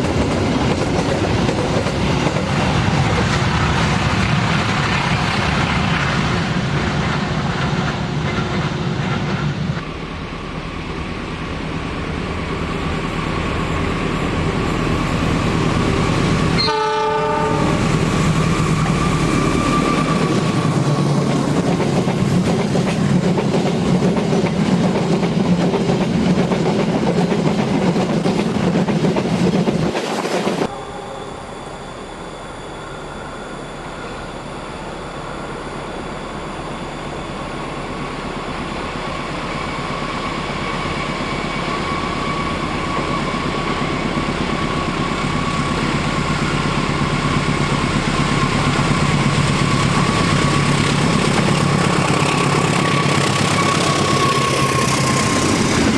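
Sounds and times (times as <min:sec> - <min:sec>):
diesel locomotive engine whine: 0:00.0 - 0:55.9.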